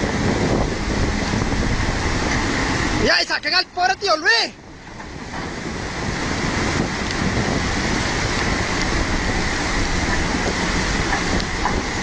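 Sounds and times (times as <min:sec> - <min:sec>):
flooded river rushing: 0:00.0 - 0:12.0
wind buffeting microphone: 0:00.0 - 0:12.0.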